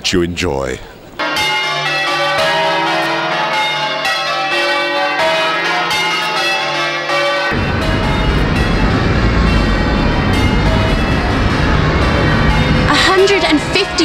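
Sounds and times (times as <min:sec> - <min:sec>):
church bells change ringing: 0:01.2 - 0:14.0.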